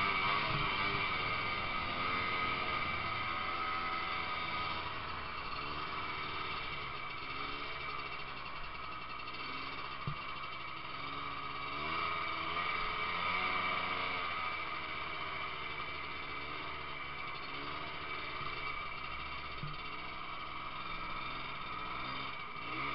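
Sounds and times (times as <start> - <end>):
snowmobile engine running: 0.0 - 22.9.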